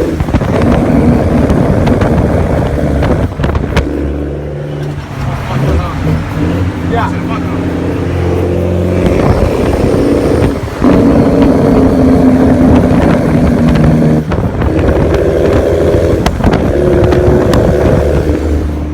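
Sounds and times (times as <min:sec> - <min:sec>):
truck diesel engine rumbling: 0:00.0 - 0:18.9.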